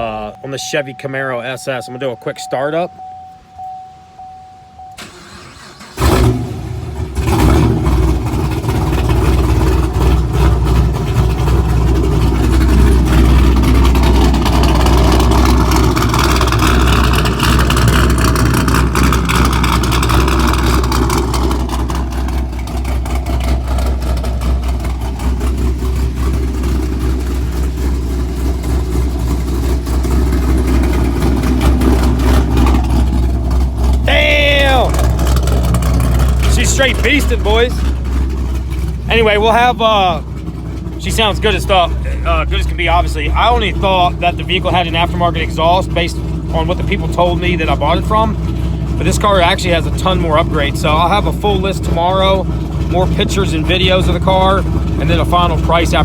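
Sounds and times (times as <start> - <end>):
engine choppy lumpy idle: 0.0 - 2.5, 5.0 - 56.0
car engine cranking and starting: 0.0 - 56.0.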